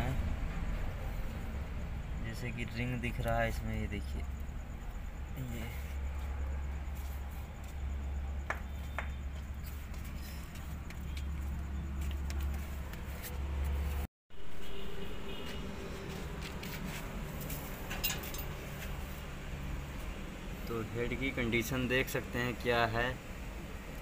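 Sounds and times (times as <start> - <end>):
low workshop hum: 0.0 - 24.0.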